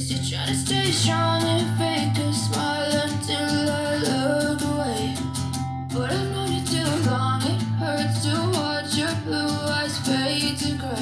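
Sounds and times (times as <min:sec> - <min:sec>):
guitar song through speaker: 0:00.0 - 0:11.0.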